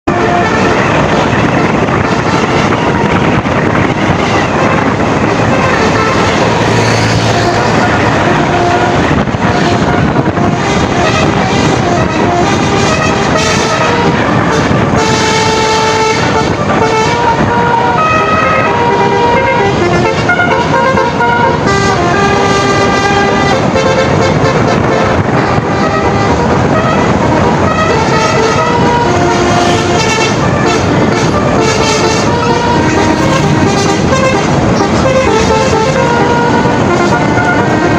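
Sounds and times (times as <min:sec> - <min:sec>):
bus engine and road noise: 0:00.0 - 0:37.9
vehicle noise: 0:00.0 - 0:37.9.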